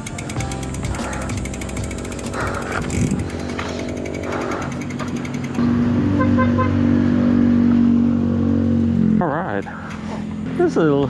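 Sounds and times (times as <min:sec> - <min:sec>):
bicycle freewheel ticking: 0:00.0 - 0:06.2, 0:07.9 - 0:11.0.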